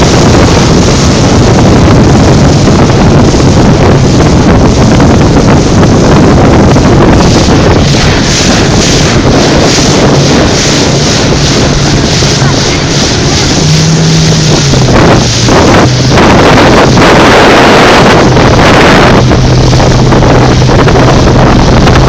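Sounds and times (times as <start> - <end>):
outboard motor hum: 0.0 - 22.0
water rushing past hull: 0.0 - 22.0
wind buffeting microphone: 0.0 - 22.0.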